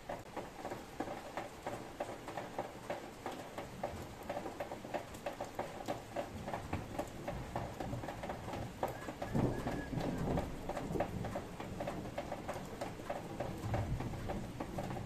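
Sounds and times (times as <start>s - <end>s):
raindrops tapping hard surface: 0.0s - 15.0s.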